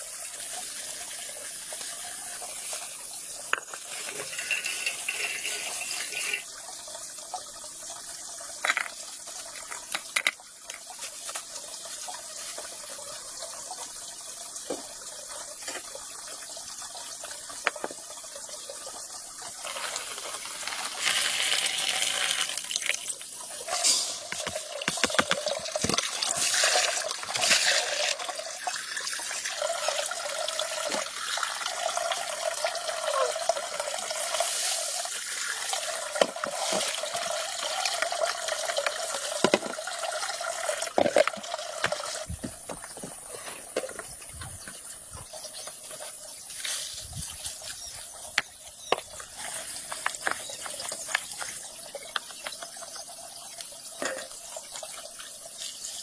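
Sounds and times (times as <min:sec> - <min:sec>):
water running and splashing: 0:00.0 - 0:56.0.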